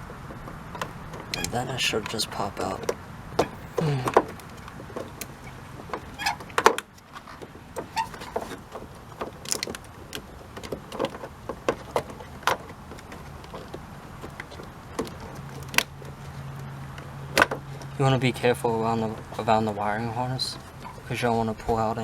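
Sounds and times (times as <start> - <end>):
plastic clicks and knocks: 0.1 - 18.0.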